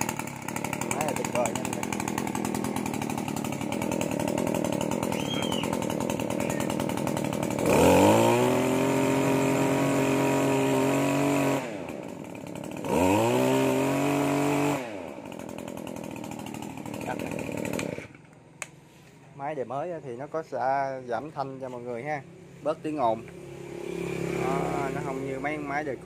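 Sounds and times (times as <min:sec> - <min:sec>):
brush cutter engine idling and revving: 0:00.0 - 0:26.0.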